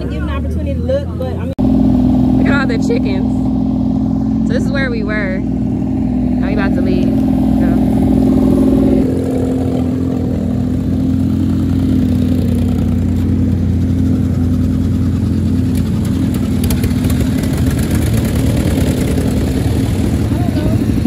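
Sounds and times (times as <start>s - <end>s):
dune buggy engines idling: 0.0s - 21.0s.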